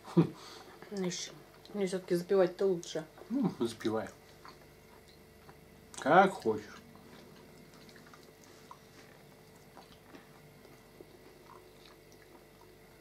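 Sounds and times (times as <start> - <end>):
faint steady hum: 0.0 - 13.0
quiet chewing: 0.6 - 2.1, 2.8 - 13.0.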